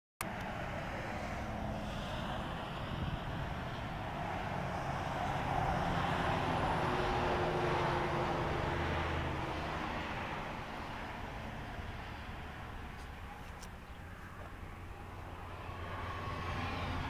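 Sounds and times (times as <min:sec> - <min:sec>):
broad rushing noise: 0:00.2 - 0:17.0
diesel engine idling: 0:00.5 - 0:17.0.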